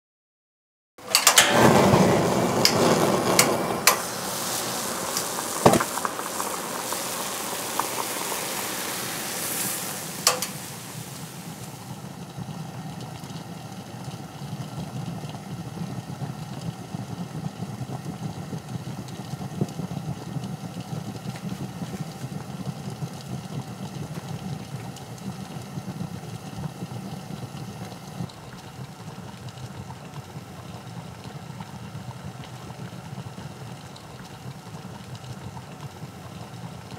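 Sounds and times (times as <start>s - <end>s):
gas burner flame hissing: 1.0s - 36.9s
pot heating rumble: 1.0s - 36.9s.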